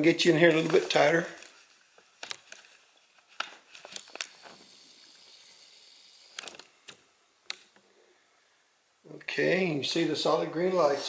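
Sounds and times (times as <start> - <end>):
faint high hiss: 0.0 - 11.0.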